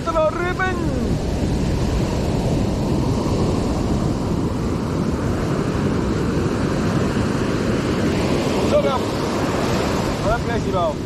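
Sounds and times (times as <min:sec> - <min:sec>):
surf washing up beach: 0:00.0 - 0:11.0
wind rumbling on microphone: 0:00.0 - 0:11.0.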